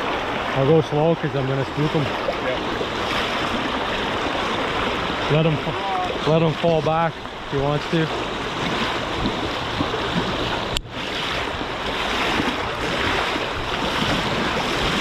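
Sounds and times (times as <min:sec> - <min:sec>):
river water rushing over rocks: 0:00.0 - 0:15.0
person wading splashing: 0:01.4 - 0:15.0.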